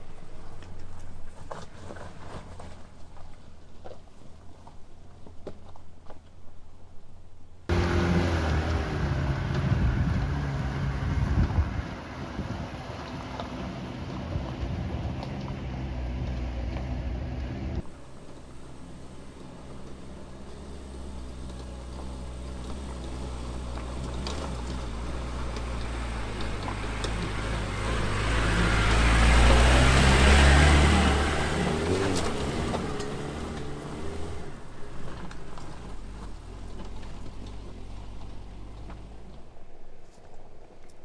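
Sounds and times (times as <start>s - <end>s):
car driving past off road: 7.7s - 41.0s.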